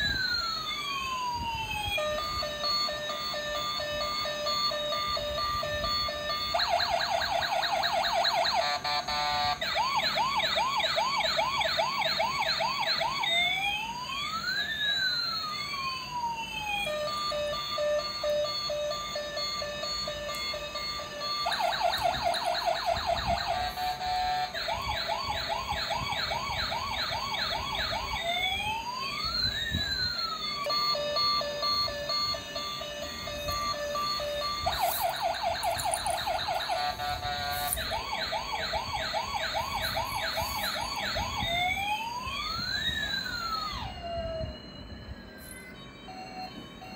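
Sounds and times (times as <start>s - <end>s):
toy police siren: 0.0s - 46.9s.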